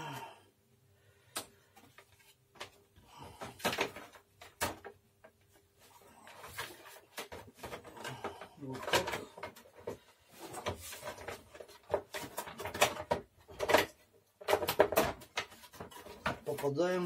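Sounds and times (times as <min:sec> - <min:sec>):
plastic parts knocking and clicking: 0:01.3 - 0:05.6, 0:06.3 - 0:17.0.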